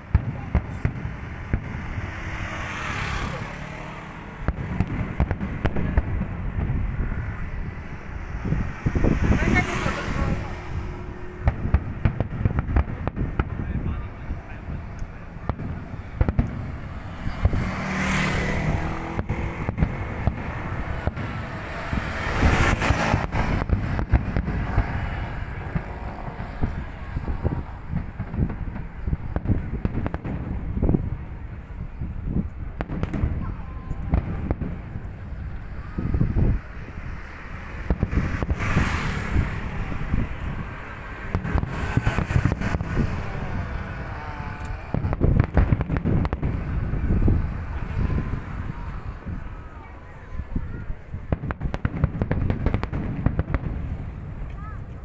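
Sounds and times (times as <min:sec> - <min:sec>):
fireworks bangs: 0:00.0 - 0:55.0
fireworks hissing: 0:00.0 - 0:55.0
low rumble: 0:00.0 - 0:55.0.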